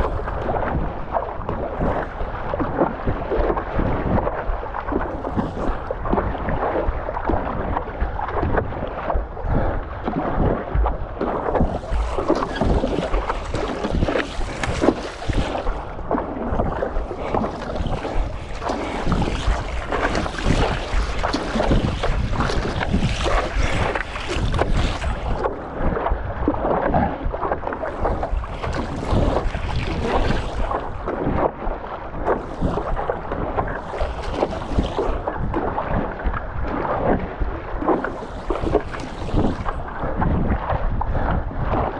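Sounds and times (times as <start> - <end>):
water splashing around paddleboard: 0.0 - 41.9
wind buffeting microphone: 0.0 - 41.9.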